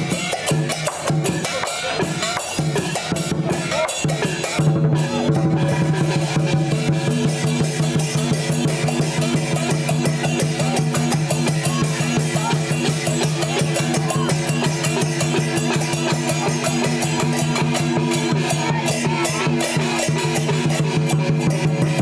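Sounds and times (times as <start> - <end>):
percussion band drums gongs cymbals: 0.0 - 22.0.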